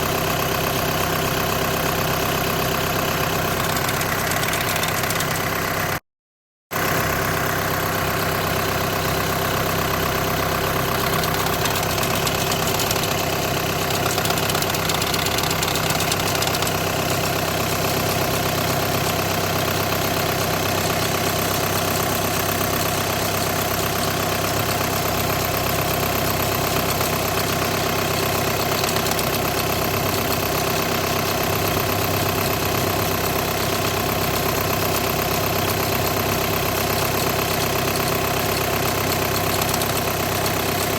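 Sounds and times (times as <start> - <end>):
gearbox noise: 3.3 - 5.7, 10.1 - 40.9
car engine idling: 7.0 - 40.9.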